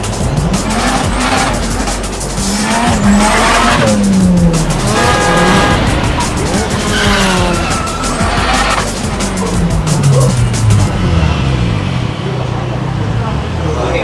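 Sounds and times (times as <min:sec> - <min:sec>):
background music: 0:00.0 - 0:12.0
car engine revving: 0:00.0 - 0:13.6.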